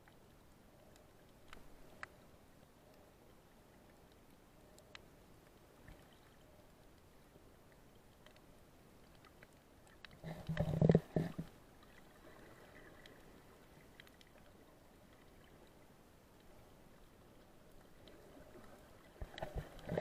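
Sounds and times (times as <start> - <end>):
faint ticks: 0.0 - 20.0
underwater ambience: 0.0 - 20.0.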